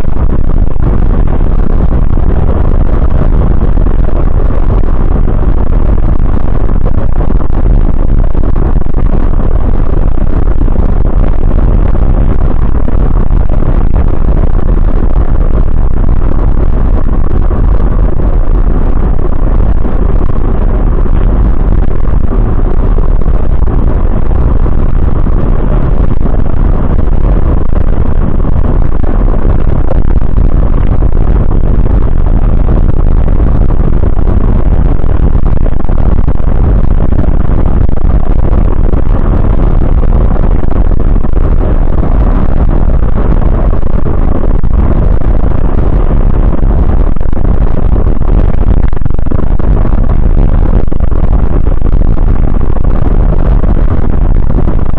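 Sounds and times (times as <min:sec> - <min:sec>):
coach engine and road rumble: 0:00.0 - 0:49.0.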